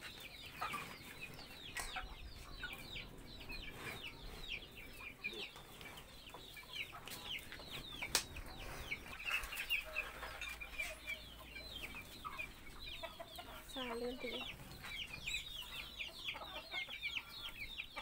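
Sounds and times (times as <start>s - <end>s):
chickens calling: 0.0s - 18.0s.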